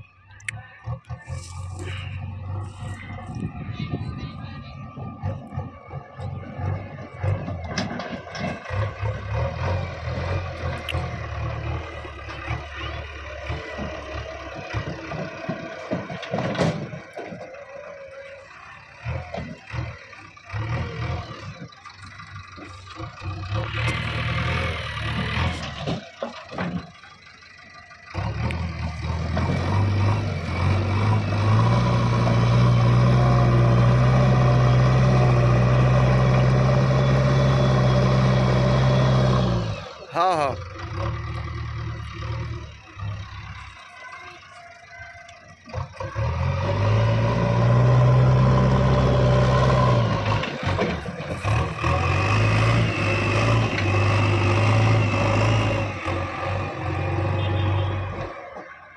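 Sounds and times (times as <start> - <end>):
heavy diesel machinery engine: 0.0 - 58.9.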